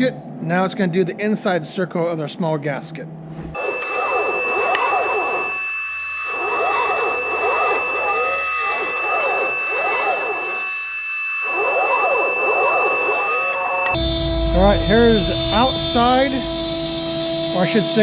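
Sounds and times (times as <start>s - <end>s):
router spindle high whine: 3.6s - 18.0s
stepper motors whining: 3.6s - 18.0s.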